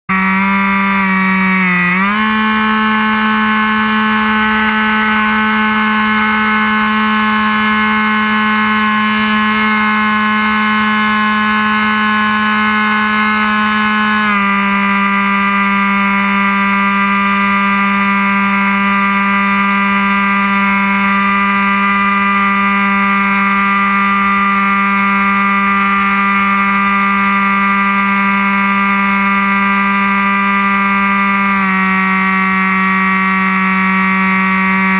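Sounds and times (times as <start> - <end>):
model plane motor whining: 0.1 - 34.9.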